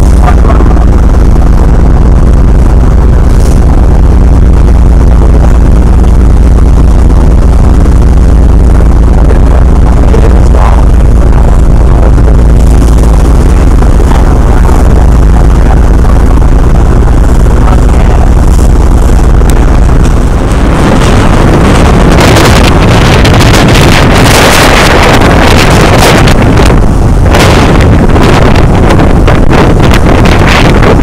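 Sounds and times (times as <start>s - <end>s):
motorboat engine rumble: 0.0s - 31.0s
rushing water: 0.0s - 31.0s
wind buffeting microphone: 0.0s - 31.0s.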